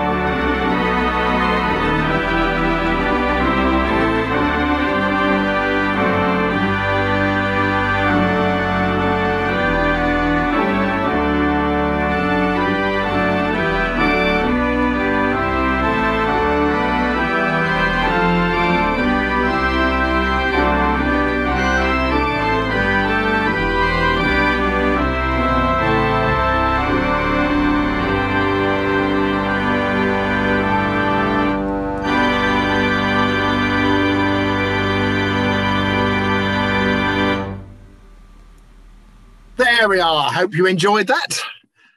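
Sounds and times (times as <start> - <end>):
organ playing carols: 0.0 - 41.5.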